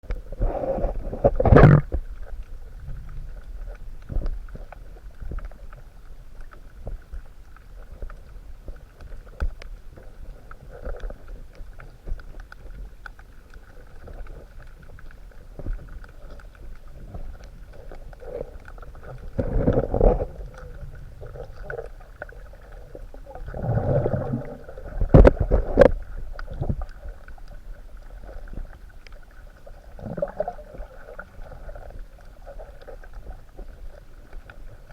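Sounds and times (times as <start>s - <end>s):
underwater knocks and swishes: 0.0s - 34.9s
underwater water rumble: 0.0s - 34.9s
faint steady hum: 0.1s - 34.9s.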